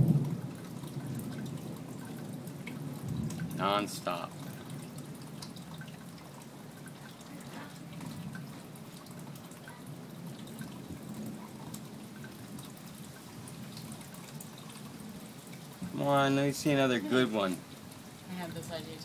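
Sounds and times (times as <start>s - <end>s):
light rain dripping and ticking: 0.0s - 19.0s.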